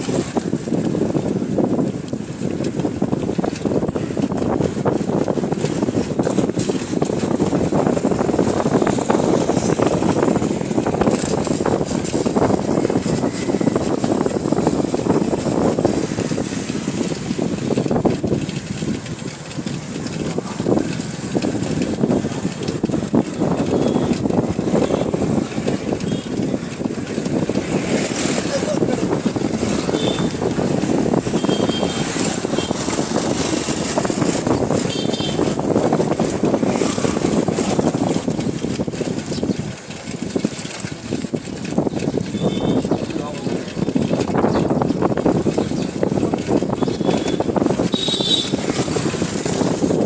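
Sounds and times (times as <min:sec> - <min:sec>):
bicycle road noise: 0:00.0 - 0:50.0
wind buffeting microphone: 0:00.0 - 0:50.0.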